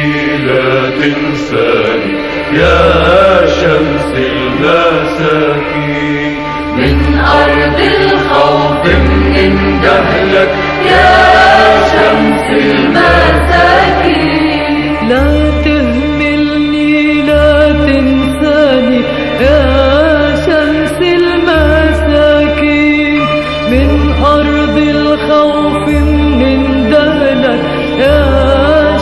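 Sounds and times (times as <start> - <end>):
slow melodic instrumental music: 0.0 - 29.0.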